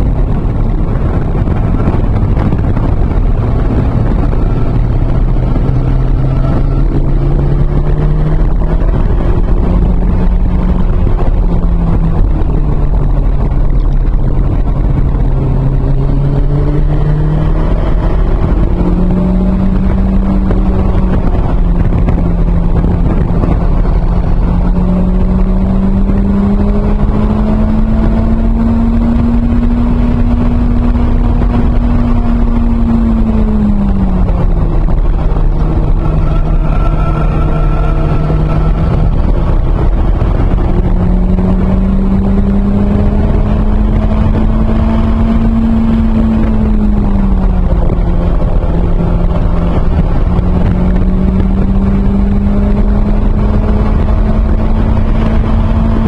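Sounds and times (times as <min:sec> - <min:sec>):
car engine revving: 0:00.0 - 0:56.0
road and wind rumble: 0:00.0 - 0:56.0.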